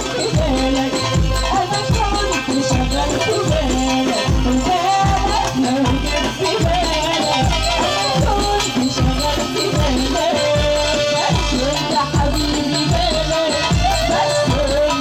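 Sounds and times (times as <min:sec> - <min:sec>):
heavy steady drum beat: 0:00.0 - 0:15.0.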